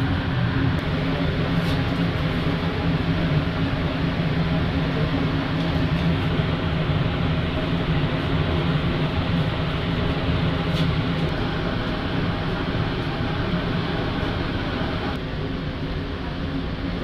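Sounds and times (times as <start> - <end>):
ventilation fans droning: 0.0 - 17.0.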